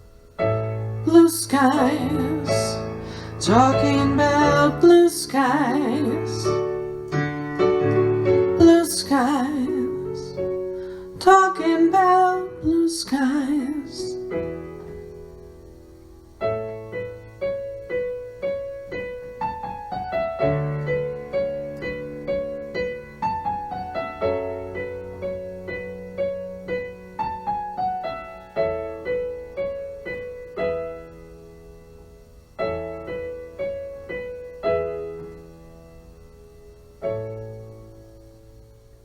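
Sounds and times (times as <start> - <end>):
electric piano playing: 0.0 - 39.0.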